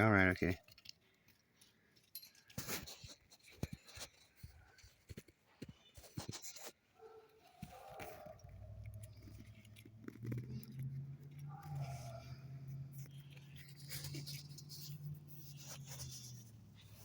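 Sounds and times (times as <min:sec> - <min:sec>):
dog clicks and scuffs: 0:02.3 - 0:16.1.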